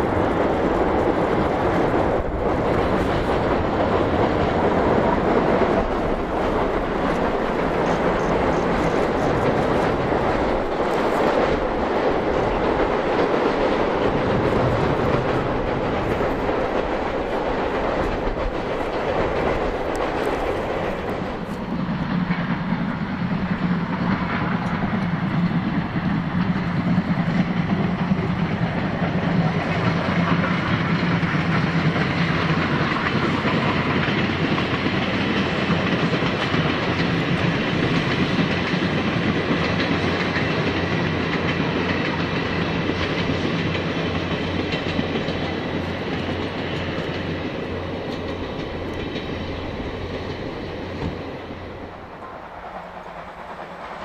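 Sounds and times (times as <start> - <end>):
steam locomotive working hard: 0.0 - 54.0
wheels clicking over rail joints: 0.0 - 54.0.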